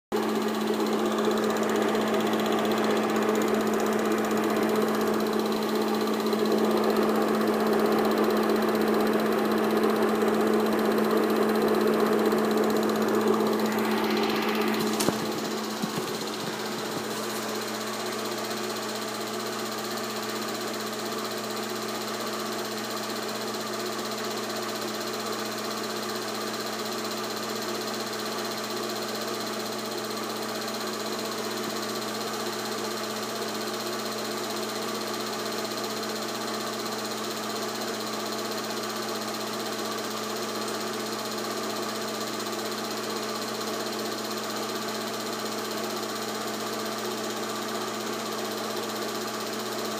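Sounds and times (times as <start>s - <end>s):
film projector running: 0.1s - 49.9s.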